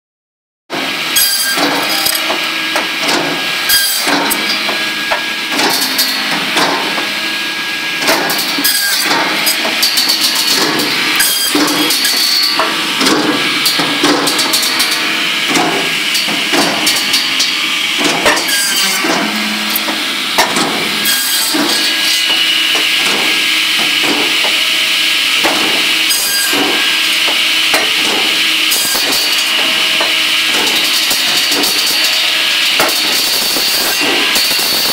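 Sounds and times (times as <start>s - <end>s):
high saw whine: 0.7s - 34.9s
firewood saw cutting logs: 0.8s - 34.9s.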